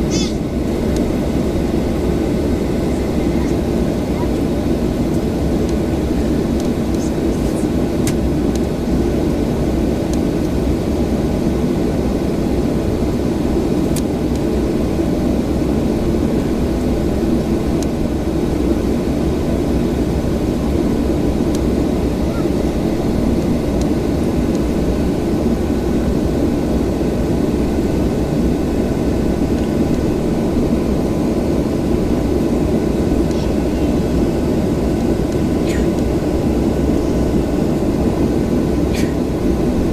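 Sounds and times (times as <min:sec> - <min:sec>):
jet engine cabin noise: 0:00.0 - 0:39.9.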